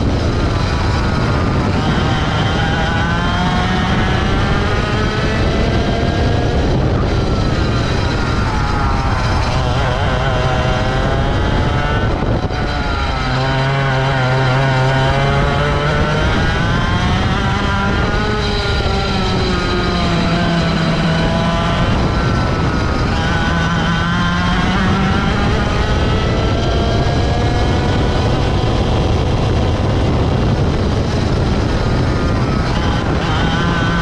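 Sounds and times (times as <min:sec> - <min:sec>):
racing kart engine: 0:00.0 - 0:34.0.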